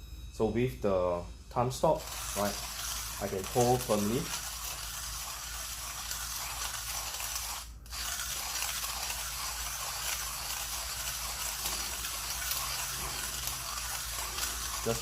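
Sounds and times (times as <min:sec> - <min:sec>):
hand grinder crushing coffee beans: 0:01.9 - 0:15.0.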